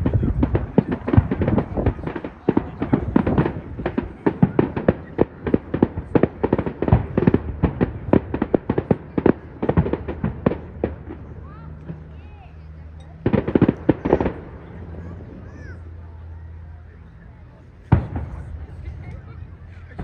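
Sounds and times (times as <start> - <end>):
fireworks bangs and pops: 0.0 - 15.6, 17.8 - 20.0.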